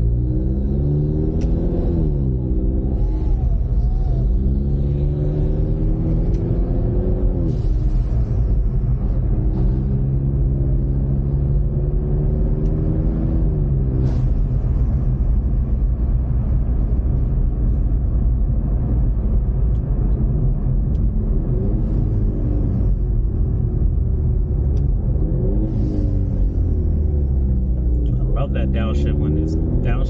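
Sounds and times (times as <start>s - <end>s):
car engine inside cabin: 0.0s - 30.0s
road noise: 0.0s - 30.0s.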